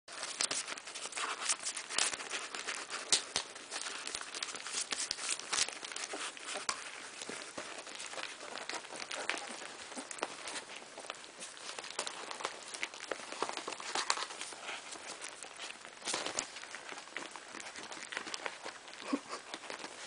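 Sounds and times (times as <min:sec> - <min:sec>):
newspaper crinkling: 0:00.1 - 0:20.0
puppies smacking and licking: 0:00.1 - 0:20.0.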